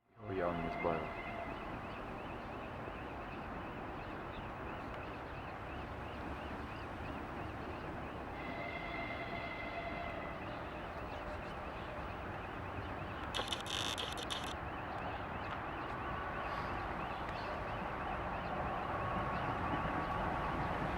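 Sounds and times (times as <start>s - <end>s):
distant diesel locomotive rumbling: 0.0s - 20.9s.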